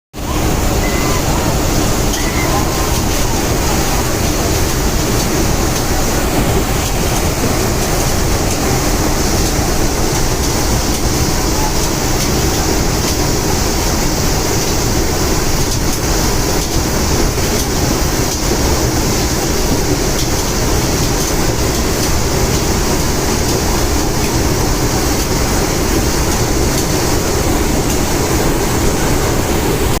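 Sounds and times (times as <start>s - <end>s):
rushing air: 0.1s - 30.0s
aircraft engines roaring: 0.2s - 30.0s.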